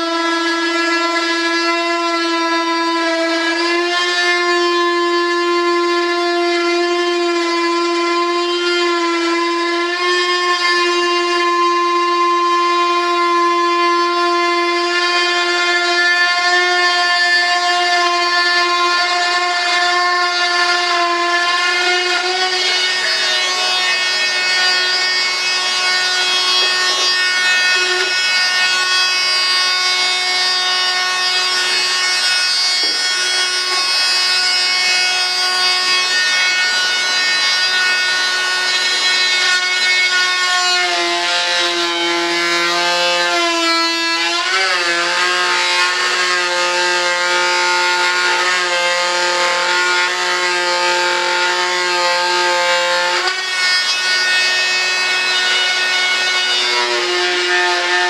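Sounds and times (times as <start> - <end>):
rotary tool whining: 7.2 - 58.0.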